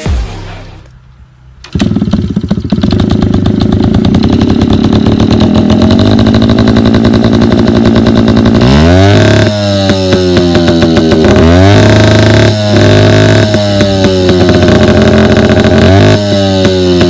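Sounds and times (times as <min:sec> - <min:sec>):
two-stroke motorcycle engine revving: 0:01.6 - 0:17.0.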